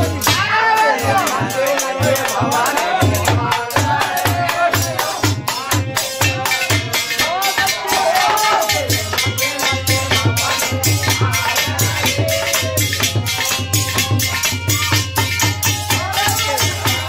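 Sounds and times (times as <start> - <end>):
man singing: 0.0 - 14.6, 15.9 - 17.0
hand drum beat: 0.0 - 17.0.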